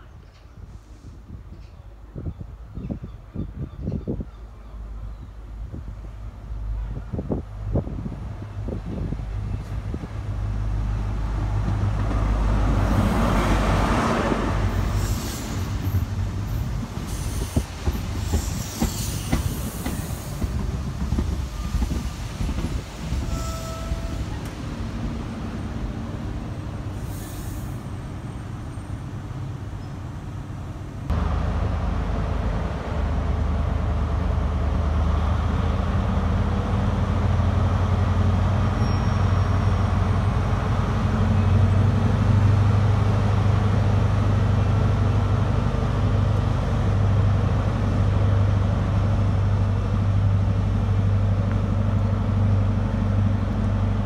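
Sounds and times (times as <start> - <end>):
diesel train passing: 4.7 - 54.0.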